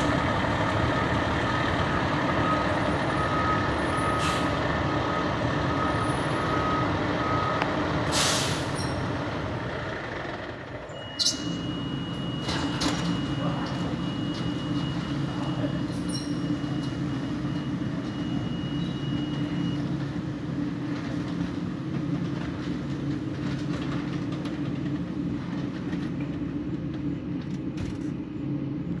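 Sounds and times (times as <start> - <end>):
diesel engine idling: 0.0 - 27.4.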